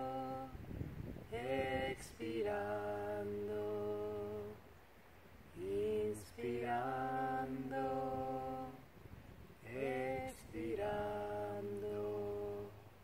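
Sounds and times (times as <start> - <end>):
soft music with held vocals: 0.0 - 13.0.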